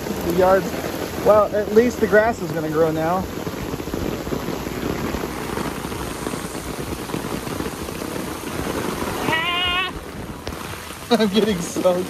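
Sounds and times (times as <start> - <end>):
heavy rain on lawn: 0.0 - 12.0.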